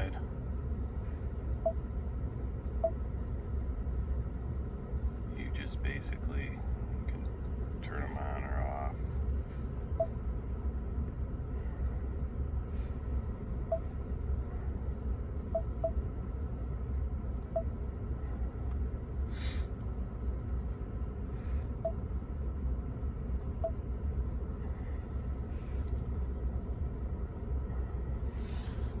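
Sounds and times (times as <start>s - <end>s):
low rumble inside truck cab: 0.0s - 29.0s.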